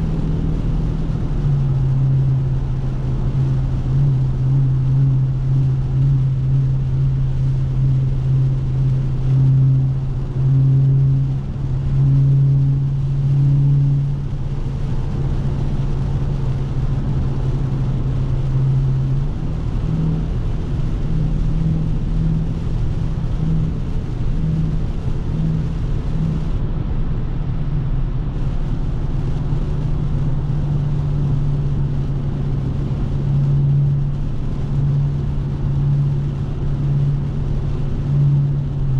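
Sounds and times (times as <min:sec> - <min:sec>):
car exhaust droning: 0:00.0 - 0:38.9
road hiss: 0:00.0 - 0:38.9.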